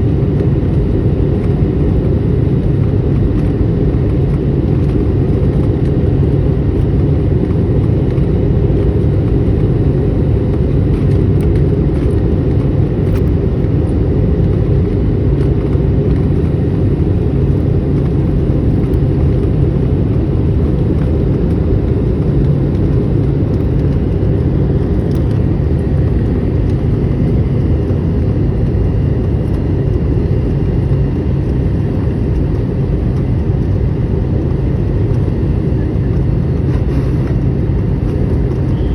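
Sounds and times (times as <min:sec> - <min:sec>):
faint engine tones: 0:00.0 - 0:38.9
jet cabin engine rumble: 0:00.0 - 0:38.9.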